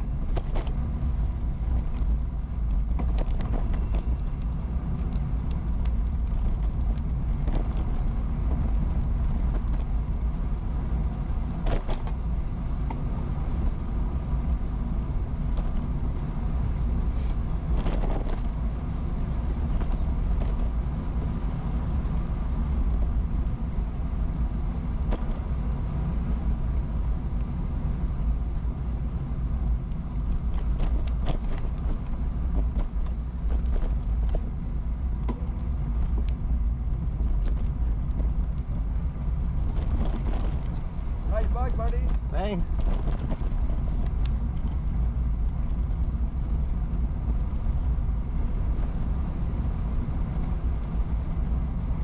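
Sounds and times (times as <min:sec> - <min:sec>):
wind and road rumble: 0:00.0 - 0:52.0.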